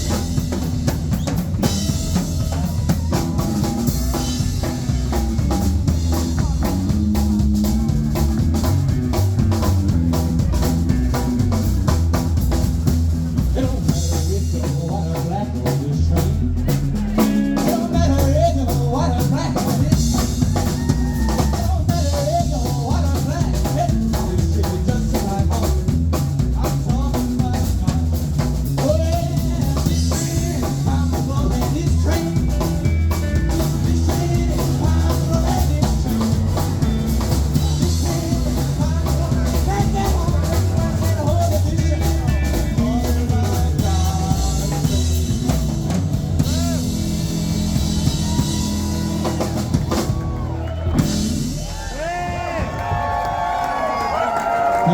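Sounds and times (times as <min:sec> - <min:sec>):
drum kit beat: 0:00.0 - 0:54.0
live rockabilly band: 0:00.0 - 0:54.9.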